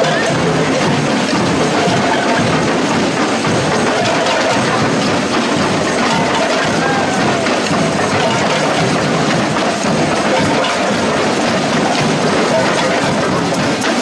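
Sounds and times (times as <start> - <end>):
crowd noise: 0.0 - 14.0
drum band playing: 0.0 - 14.0.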